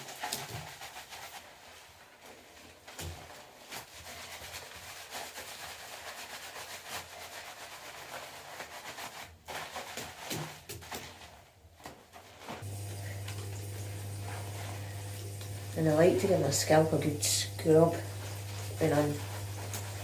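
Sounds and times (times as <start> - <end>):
hands lathering wet hair: 0.0 - 20.0.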